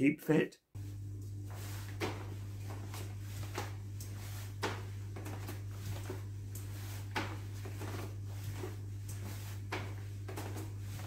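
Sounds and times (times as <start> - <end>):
low hum: 0.8 - 11.0
bare feet on plastic step stool: 1.5 - 11.0.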